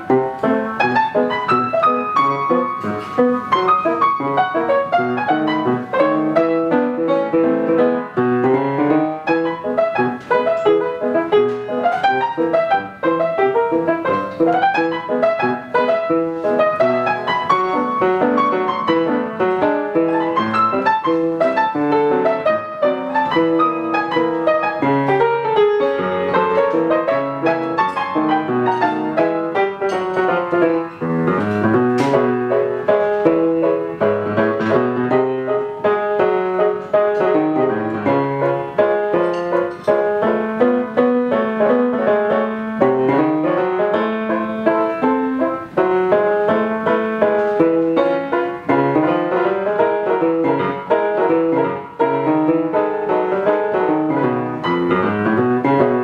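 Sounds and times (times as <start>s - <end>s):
lively piano solo: 0.0s - 56.0s.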